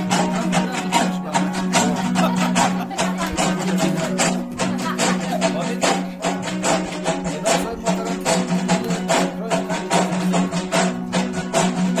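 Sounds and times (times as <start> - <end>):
music with percussive beat: 0.0 - 12.0.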